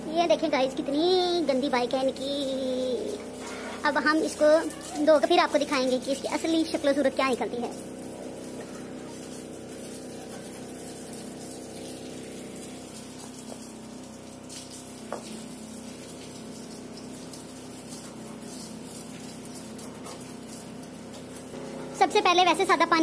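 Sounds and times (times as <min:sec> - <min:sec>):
water jet spraying from hose: 0:00.0 - 0:23.0.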